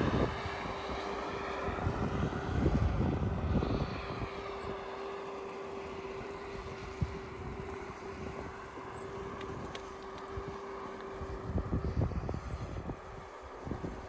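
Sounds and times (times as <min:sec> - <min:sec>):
steady hum: 0:00.0 - 0:14.0
wind buffeting microphone: 0:00.0 - 0:14.0.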